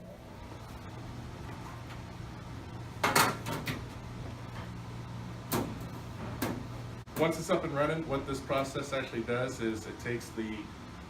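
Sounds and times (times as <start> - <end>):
dehumidifier humming: 0.0 - 11.0.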